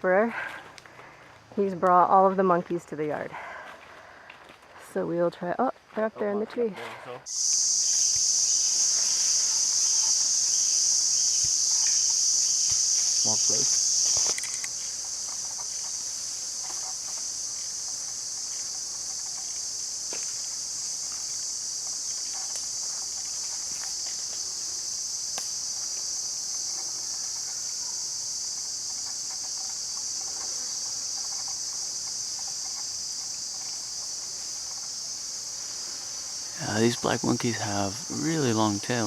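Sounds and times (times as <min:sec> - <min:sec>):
insect chorus drone: 0:00.0 - 0:39.0.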